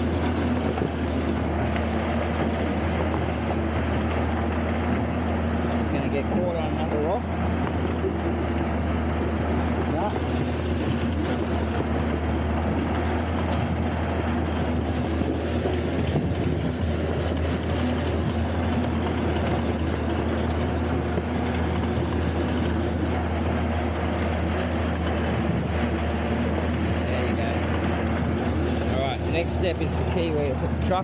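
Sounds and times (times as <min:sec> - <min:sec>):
diesel engine running: 0:00.0 - 0:31.0
drum churning water and dirt: 0:00.0 - 0:31.0.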